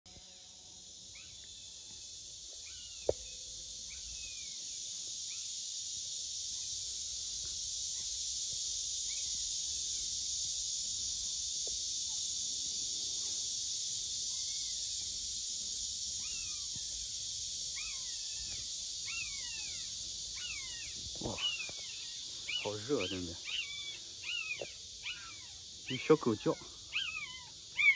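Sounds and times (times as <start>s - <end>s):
high insect drone: 0.1s - 27.9s.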